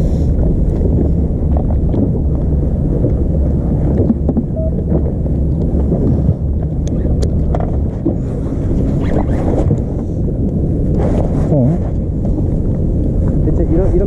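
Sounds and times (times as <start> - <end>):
boat engine low rumble: 0.0 - 14.0
wind buffeting microphone: 0.0 - 14.0.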